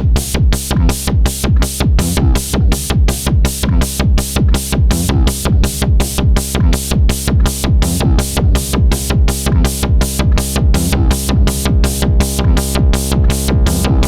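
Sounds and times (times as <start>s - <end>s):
hi-hat ticking: 0.0s - 14.0s
synthesized kick drum: 0.0s - 14.0s
low synth tone: 2.0s - 14.0s.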